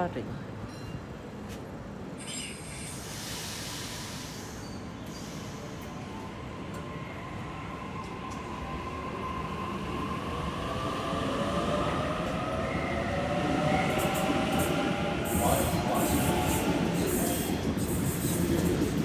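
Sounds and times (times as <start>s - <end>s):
train rumble: 3.1s - 19.0s.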